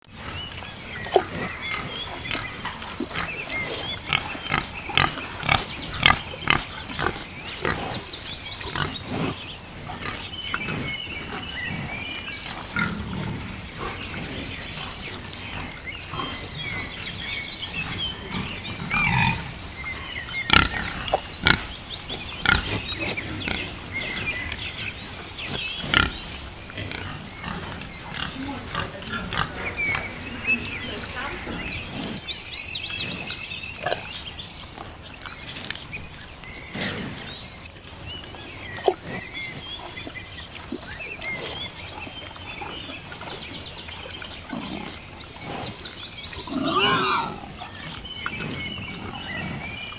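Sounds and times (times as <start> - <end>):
wild boar grunting: 0.1 - 34.4, 36.1 - 49.9.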